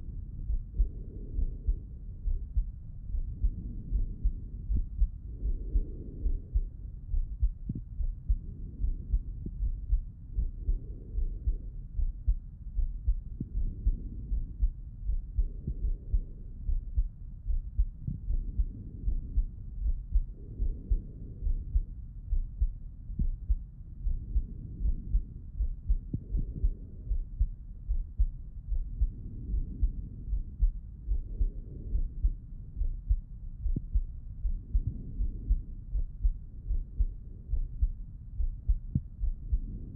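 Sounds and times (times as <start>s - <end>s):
muffled heartbeat through stethoscope: 0.0s - 39.9s.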